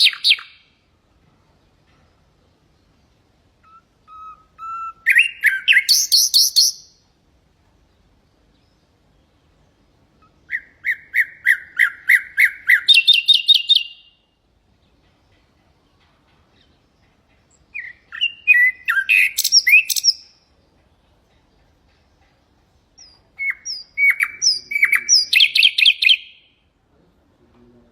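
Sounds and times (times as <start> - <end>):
nightingale singing: 0.0 - 26.8.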